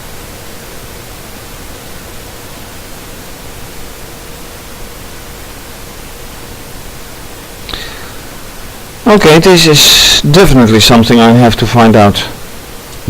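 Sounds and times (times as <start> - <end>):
background hiss: 0.0 - 13.0
faint hum: 0.0 - 13.0.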